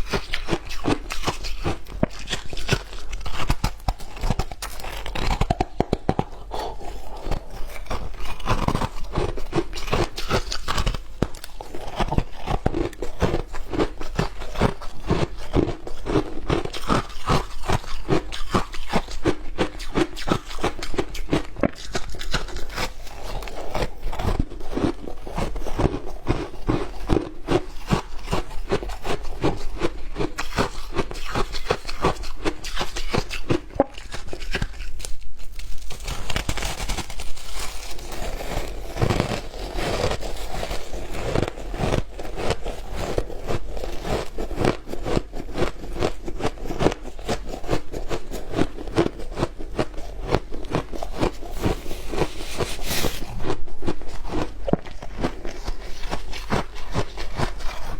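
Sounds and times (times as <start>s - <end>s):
chewing crunching ice: 0.0s - 57.9s.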